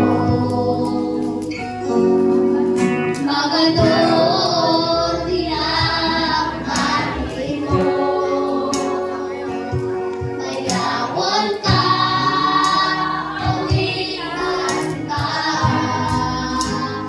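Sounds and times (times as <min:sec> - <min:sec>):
group singing a hymn: 0:00.0 - 0:01.5, 0:03.2 - 0:17.0.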